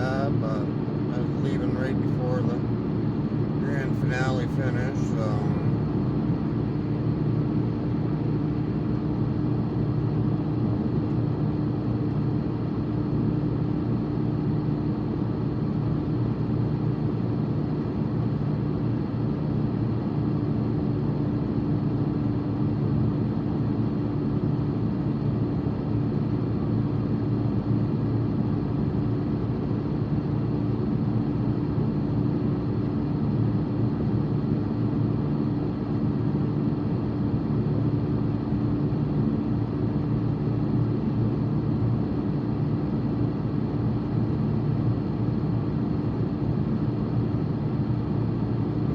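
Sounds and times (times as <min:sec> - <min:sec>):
constant low hum: 0:00.0 - 0:48.9.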